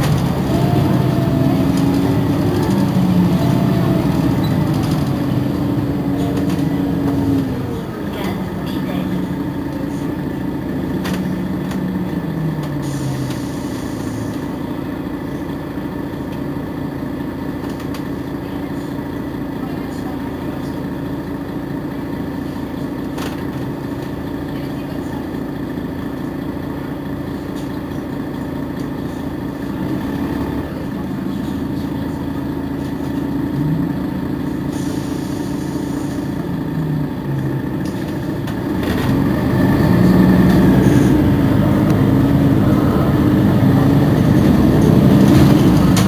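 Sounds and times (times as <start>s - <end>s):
bus engine idling: 0.0s - 46.0s.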